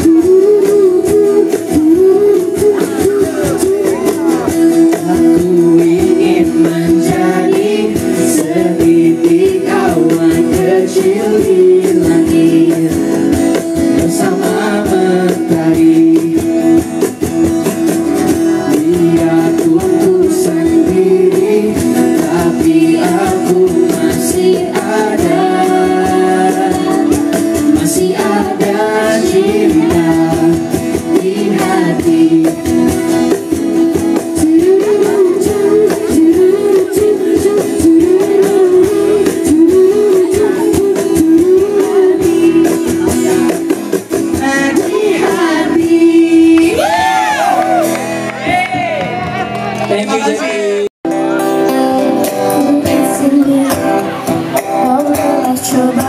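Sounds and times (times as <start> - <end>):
woman singing: 0.0 - 16.9, 18.6 - 43.6, 44.3 - 47.4, 51.6 - 56.0
guitar accompaniment: 0.0 - 56.0.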